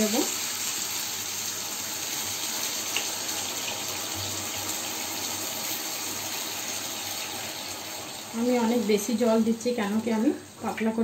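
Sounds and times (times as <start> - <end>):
spice paste frying: 0.0 - 11.0.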